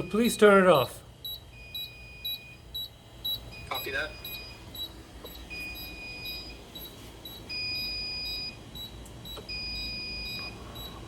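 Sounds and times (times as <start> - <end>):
short high alarm beeps: 1.2 - 11.0
longer alarm tone: 1.3 - 11.0.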